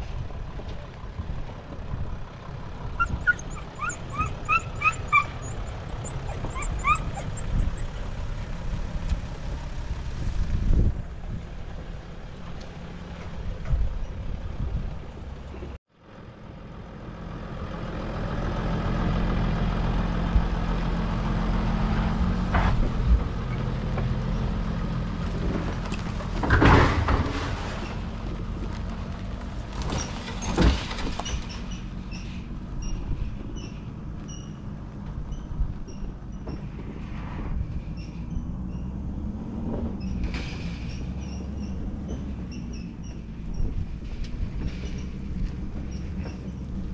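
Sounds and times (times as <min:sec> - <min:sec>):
diesel van engine under load: 0:00.0 - 0:46.9.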